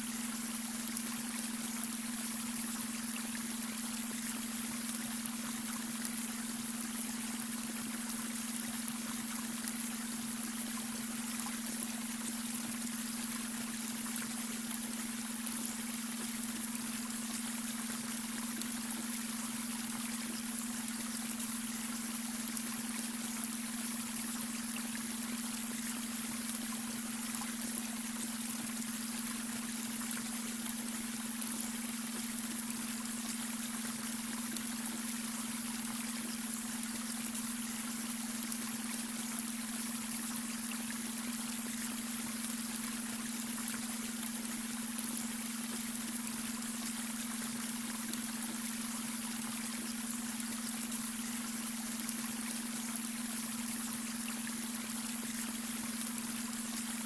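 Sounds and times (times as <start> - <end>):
brook water running over stones: 0.0 - 57.0.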